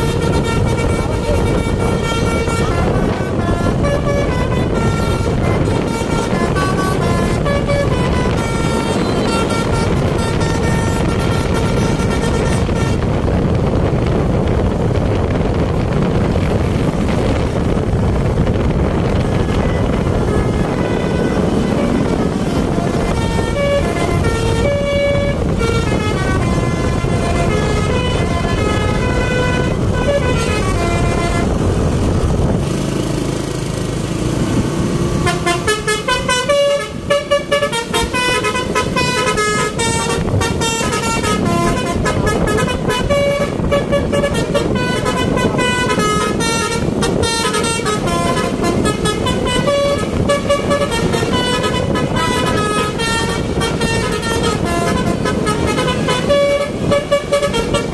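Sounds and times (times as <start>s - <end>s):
multi-tone bus horn playing tune: 0.0s - 57.9s
traffic rumble: 0.0s - 57.9s.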